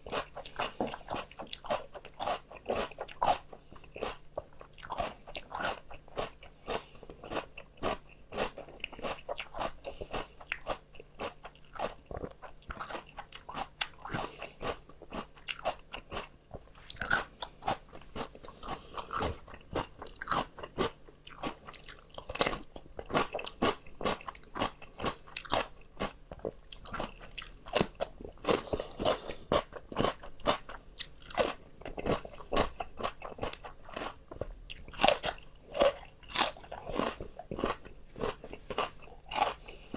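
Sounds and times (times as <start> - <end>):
chewing crisp raw vegetables: 0.0 - 39.9.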